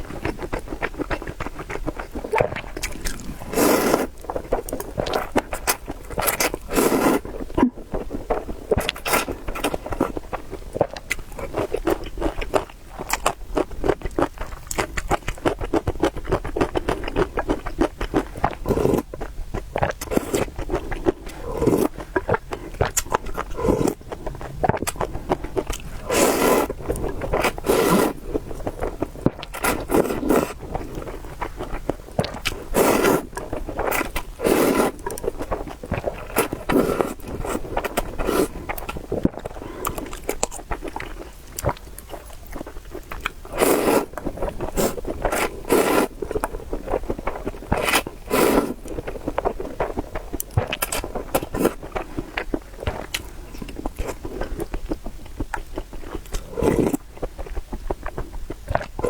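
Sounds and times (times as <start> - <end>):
close chewing and mouth clicks: 0.0 - 59.0.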